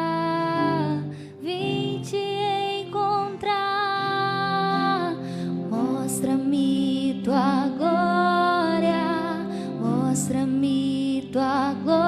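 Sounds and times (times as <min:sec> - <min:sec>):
person singing with vibrato: 0:00.0 - 0:12.0
soft instrumental accompaniment: 0:00.0 - 0:12.0.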